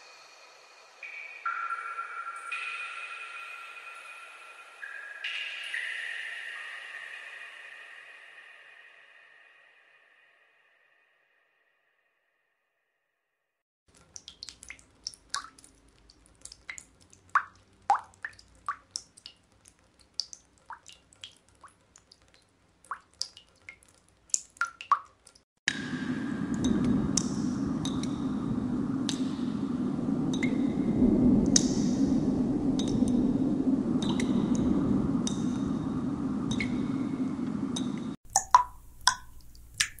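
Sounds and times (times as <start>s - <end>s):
water dripping into water: 1.0s - 8.3s, 13.9s - 40.0s.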